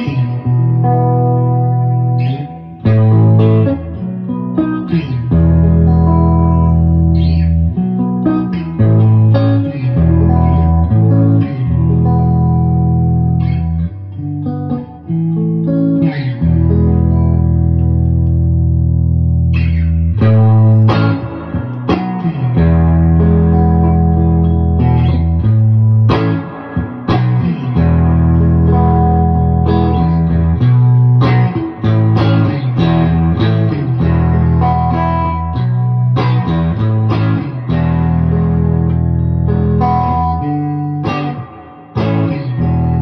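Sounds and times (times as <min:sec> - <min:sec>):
electric guitar notes and chords: 0:00.0 - 0:43.0.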